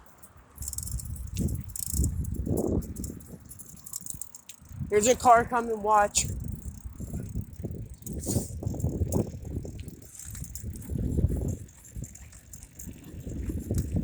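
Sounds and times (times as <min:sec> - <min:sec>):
bicycle rattling and clattering: 0:00.0 - 0:14.0.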